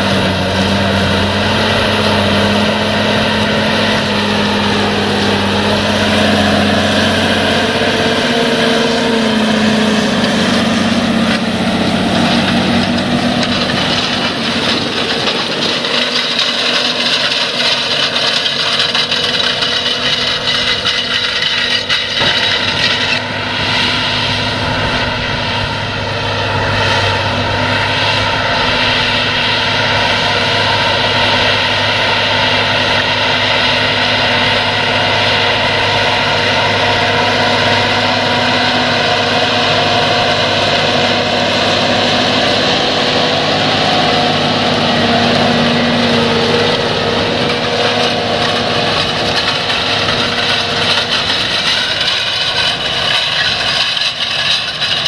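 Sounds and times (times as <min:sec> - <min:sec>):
discs working the soil: 0:00.0 - 0:55.0
tractor diesel engine under load: 0:00.0 - 0:55.0.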